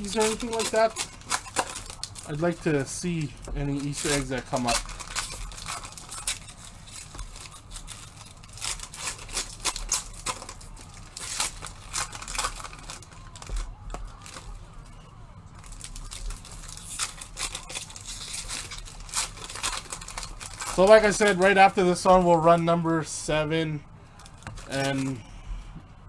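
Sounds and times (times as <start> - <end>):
foil wrapper crinkling and tearing: 0.0 - 23.0, 24.1 - 25.2.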